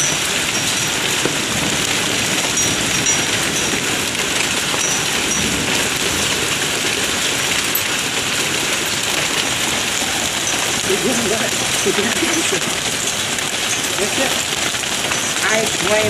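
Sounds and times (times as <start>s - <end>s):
rain and hail falling: 0.0s - 16.0s.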